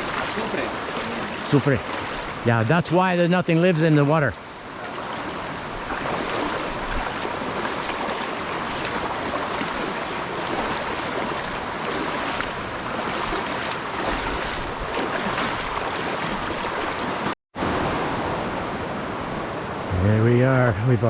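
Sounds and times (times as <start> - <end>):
flowing river water: 0.0 - 20.4.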